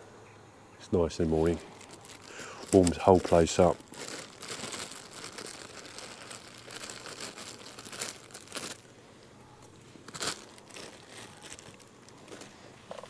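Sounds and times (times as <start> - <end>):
packet crinkling and rustling: 1.2 - 9.0, 9.6 - 13.0.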